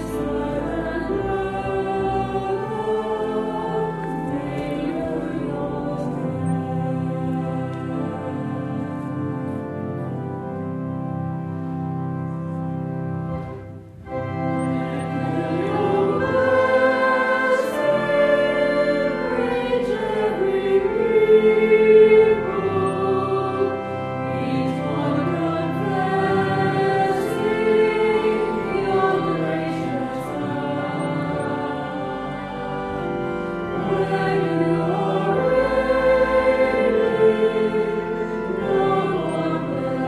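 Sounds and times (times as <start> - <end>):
choir singing church music: 0.0 - 40.0.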